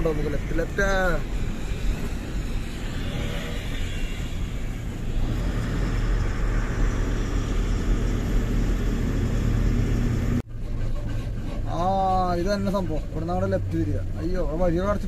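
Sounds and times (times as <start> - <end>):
diesel truck engine running: 0.0 - 15.0
road noise: 0.0 - 15.0.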